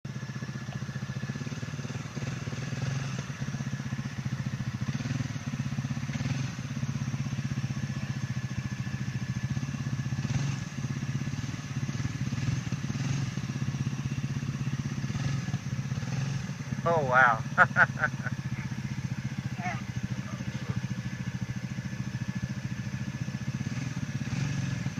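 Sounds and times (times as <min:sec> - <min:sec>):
atv engine running: 0:00.0 - 0:24.9.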